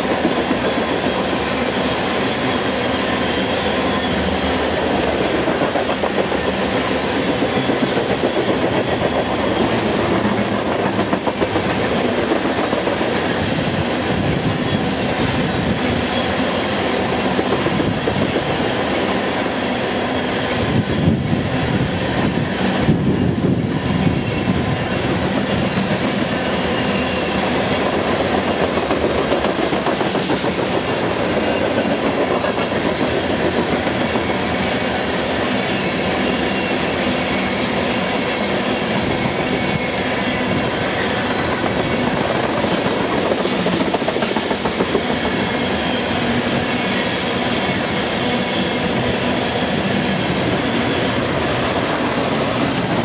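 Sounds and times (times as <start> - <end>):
steel wheels clattering on rails: 0.0 - 53.0.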